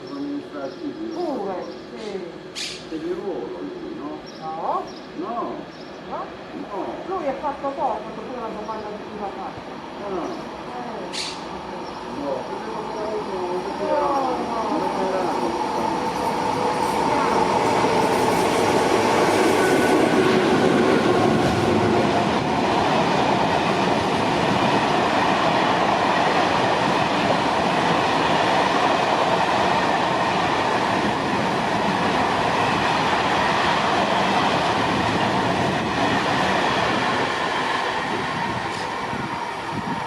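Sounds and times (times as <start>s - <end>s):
train wheels rolling on rails: 5.7s - 40.0s.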